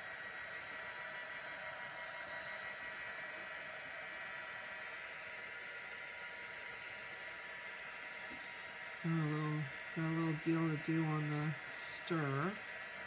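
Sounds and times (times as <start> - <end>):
craft dryer blowing: 0.0 - 13.0.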